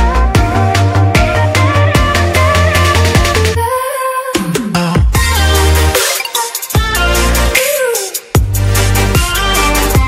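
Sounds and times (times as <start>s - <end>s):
dubstep music with heavy bass: 0.0s - 10.0s.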